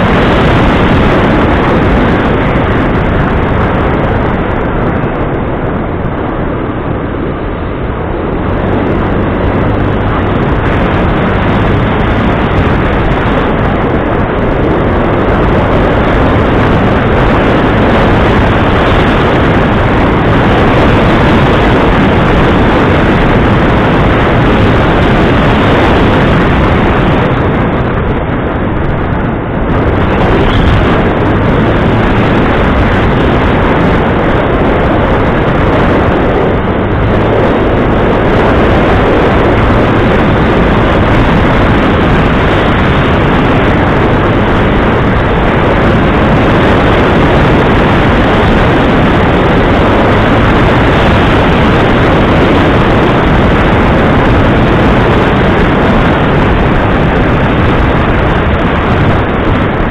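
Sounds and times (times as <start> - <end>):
heavy rushing noise: 0.0 - 59.9
loud engine running: 0.0 - 59.9.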